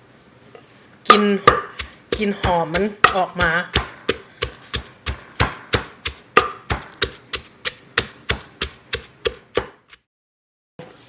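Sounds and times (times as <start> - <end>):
pestle pounding in a mortar: 1.1 - 10.1.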